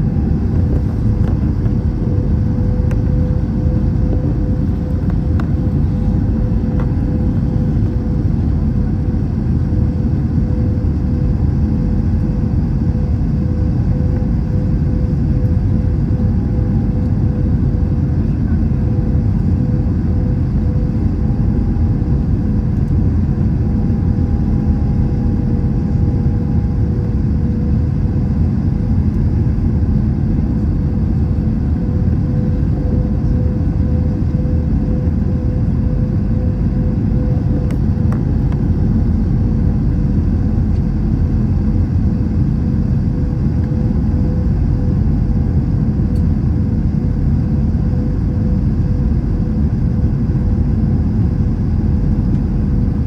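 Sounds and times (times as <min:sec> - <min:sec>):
jet engines idling rumble: 0:00.0 - 0:53.0
steady hum tone: 0:00.0 - 0:53.0.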